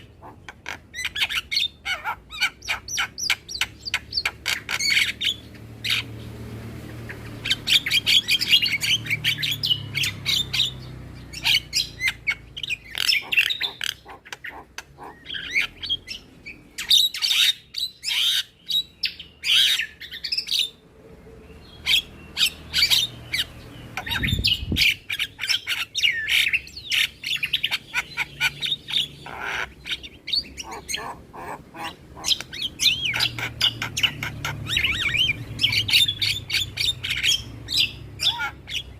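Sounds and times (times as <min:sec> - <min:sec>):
bird chattering squawks: 0:00.0 - 0:06.1, 0:06.9 - 0:20.8, 0:21.8 - 0:38.9.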